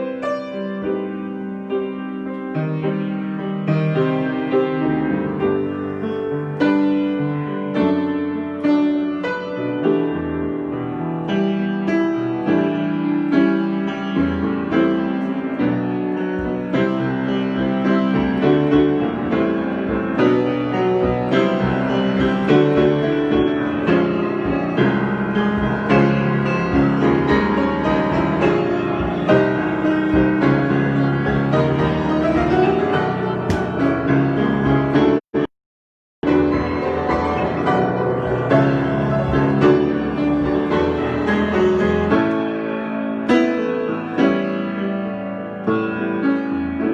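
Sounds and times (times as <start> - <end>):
solo piano improvisation: 0.0 - 35.2, 36.2 - 46.9.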